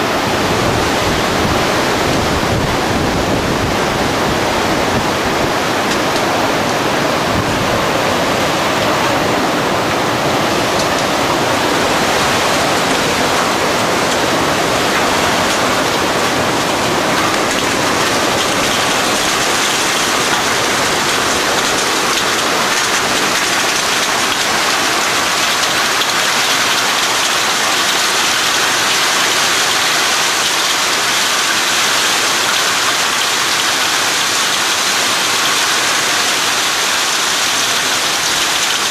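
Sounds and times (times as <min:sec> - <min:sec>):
heavy rain pelting down: 0:00.0 - 0:38.9.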